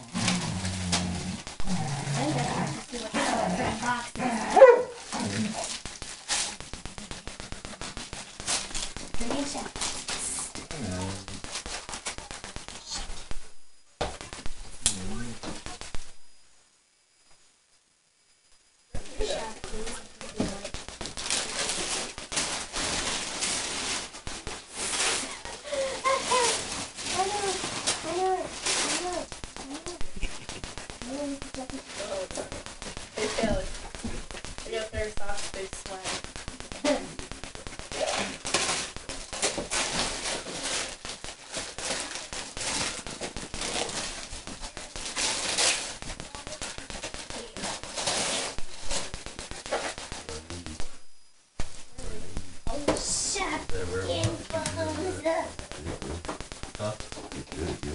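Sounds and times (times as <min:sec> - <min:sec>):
wrapping paper tearing and crinkling: 0:00.0 - 0:13.3, 0:19.4 - 0:50.8, 0:52.7 - 0:57.9.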